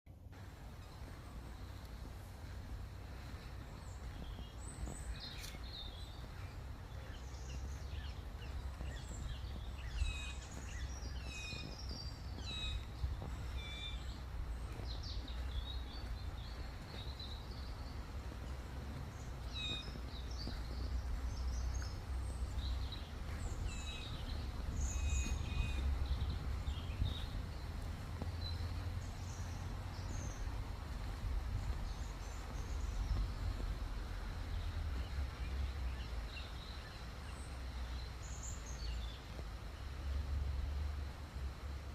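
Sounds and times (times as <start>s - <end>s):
woodland birds chirping: 0.1s - 41.9s
low rumble: 0.2s - 36.7s.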